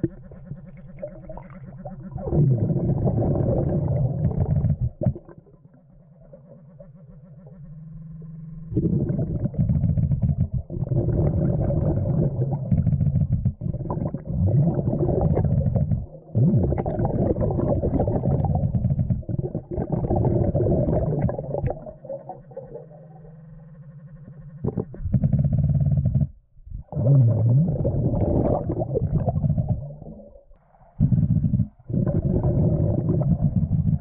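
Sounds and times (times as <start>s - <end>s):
underwater rumbling and gurgling: 0.0s - 34.0s
rising bubbly glides: 0.8s - 6.8s, 8.7s - 23.5s, 26.8s - 34.0s.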